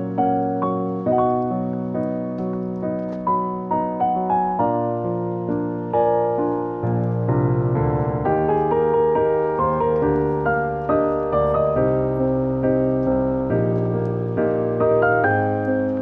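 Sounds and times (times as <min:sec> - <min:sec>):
piano melody over sustained chords: 0:00.0 - 0:16.0.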